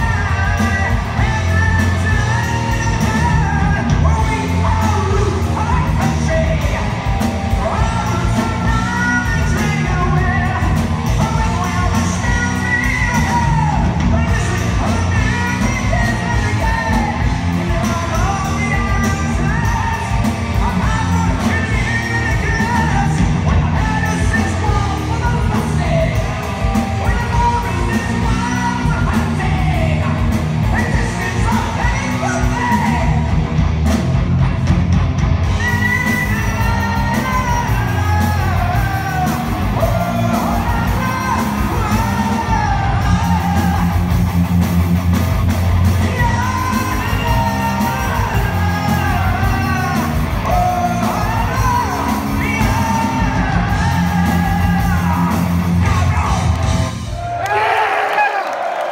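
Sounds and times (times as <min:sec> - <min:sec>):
man singing high belting vocal: 0:00.0 - 0:33.4, 0:35.4 - 0:44.6, 0:45.8 - 0:56.8
metal band playing live: 0:00.0 - 0:57.8.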